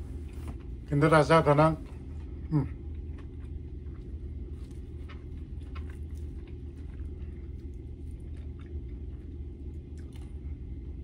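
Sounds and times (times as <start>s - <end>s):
steady low hum: 0.0s - 11.0s
chewing: 1.8s - 10.9s.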